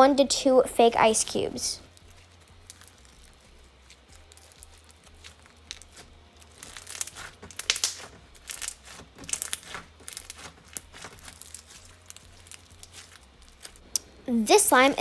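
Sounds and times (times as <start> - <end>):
slime crunching and crackling: 0.0 - 15.0.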